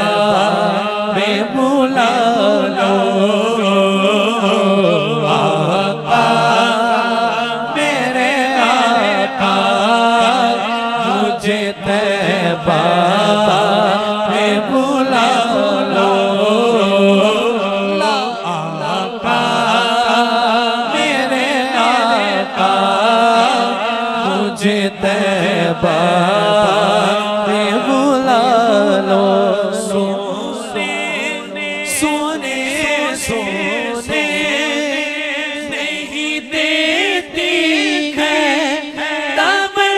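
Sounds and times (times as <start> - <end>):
man singing through microphone: 0.0 - 39.9.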